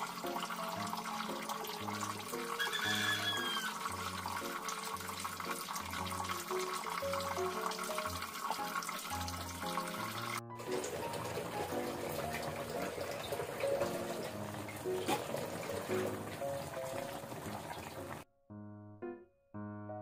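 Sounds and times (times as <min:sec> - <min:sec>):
sauce bubbling in a wok: 0:00.0 - 0:18.2.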